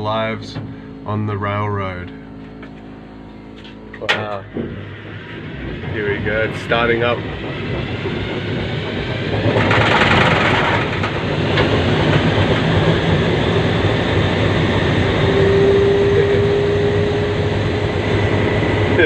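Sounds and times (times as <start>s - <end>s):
diesel engine rumble: 0.0s - 19.0s
steady whine: 0.0s - 19.0s.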